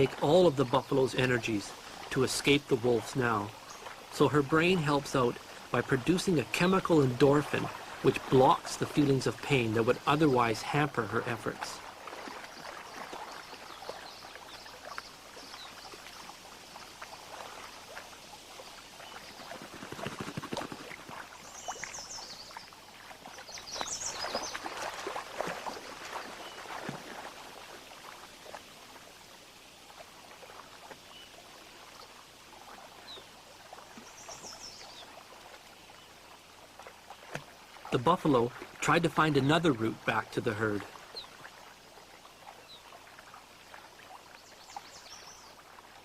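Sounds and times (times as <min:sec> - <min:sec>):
water splashing and sloshing: 0:00.0 - 0:46.0.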